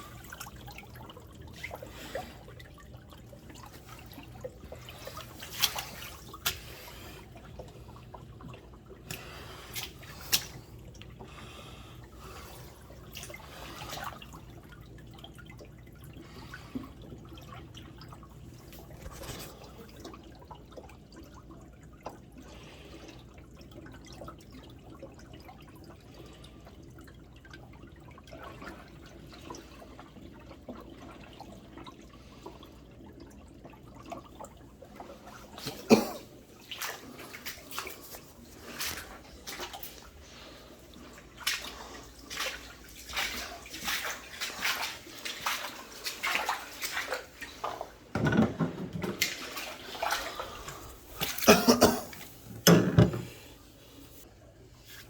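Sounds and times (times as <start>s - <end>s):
water splashing and gurgling: 0.0s - 55.0s.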